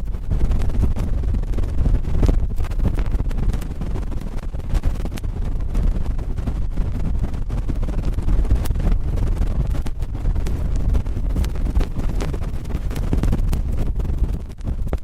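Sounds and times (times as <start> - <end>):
cotton swab scratching microphone: 0.0 - 15.0
deep rumble: 0.0 - 15.0.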